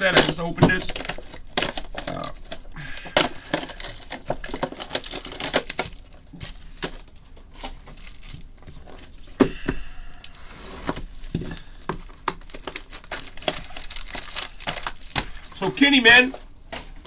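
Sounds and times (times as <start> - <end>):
plastic wrappers crinkling: 0.0 - 9.4, 10.9 - 17.0.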